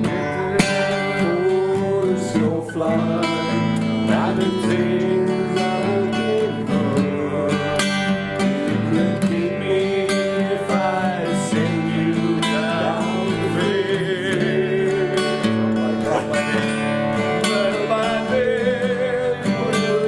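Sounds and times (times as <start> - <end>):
acoustic guitar strumming: 0.0 - 20.0
person singing: 0.0 - 20.0.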